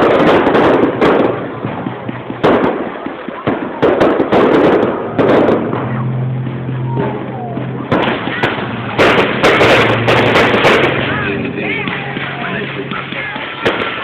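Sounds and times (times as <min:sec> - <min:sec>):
fireworks bangs with crackle: 0:00.0 - 0:14.0.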